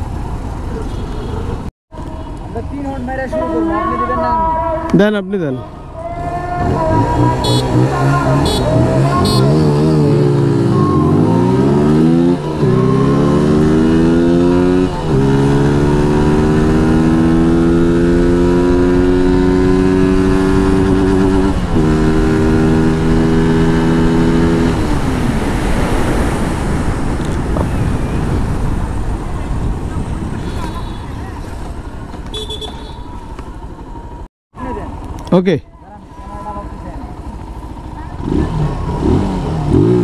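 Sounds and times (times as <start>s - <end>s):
motorcycle engine revving: 6.2s - 40.0s.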